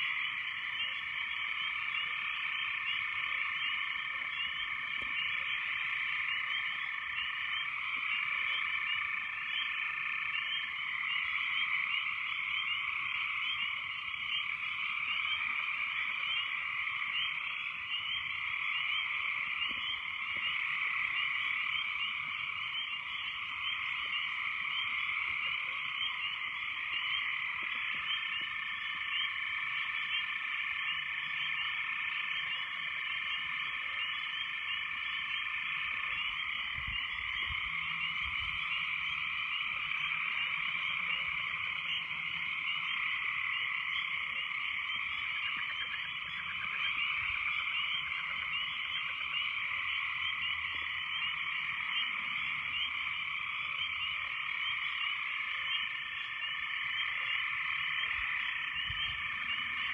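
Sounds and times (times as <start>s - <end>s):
frog chorus: 0.0s - 59.9s.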